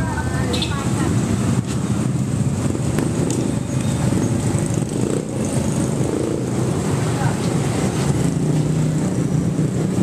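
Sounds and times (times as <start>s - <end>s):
engine rumbling: 0.0s - 10.0s.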